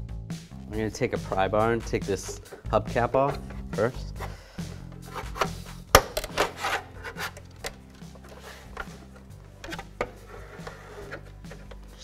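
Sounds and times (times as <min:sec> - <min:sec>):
soft background music: 0:00.0 - 0:12.0
pry bar scraping hubcap: 0:01.0 - 0:12.0.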